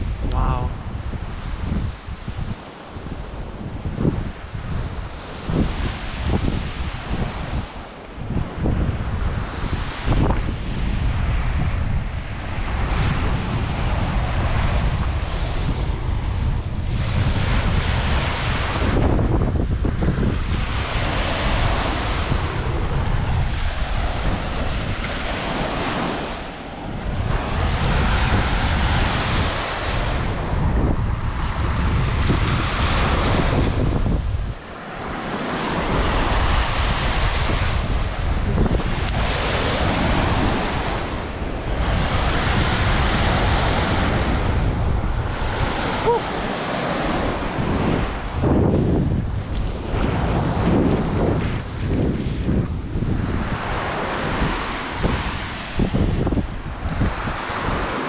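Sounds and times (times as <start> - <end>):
small waves on sand beach: 0.0 - 58.0
wind buffeting microphone: 0.0 - 58.0.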